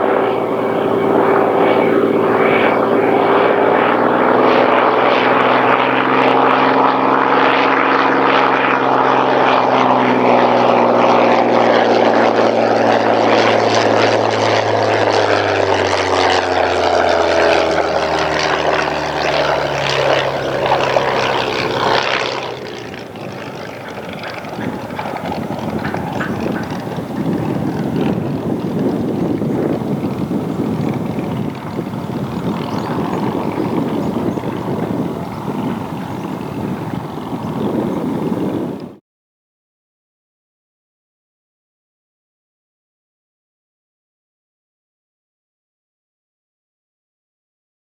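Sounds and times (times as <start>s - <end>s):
propeller plane engine droning: 0.0s - 39.0s
wind on microphone: 0.0s - 39.0s.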